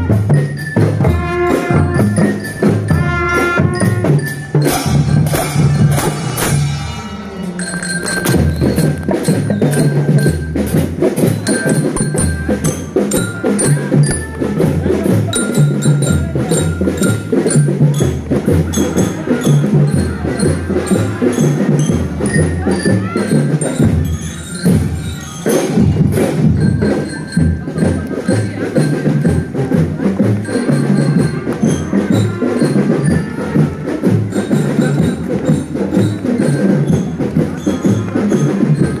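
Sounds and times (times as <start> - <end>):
bell lyra melody: 0.0 - 39.0
marching drums beating: 0.0 - 39.0.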